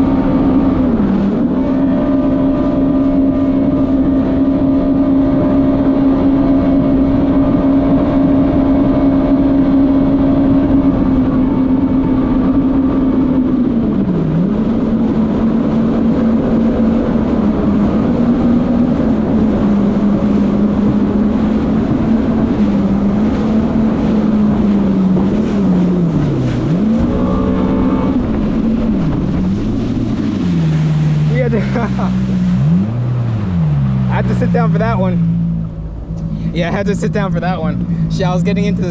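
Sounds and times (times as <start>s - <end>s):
jet ski engine whine: 0.0s - 38.9s
water noise: 0.0s - 38.9s
wind: 0.0s - 38.9s.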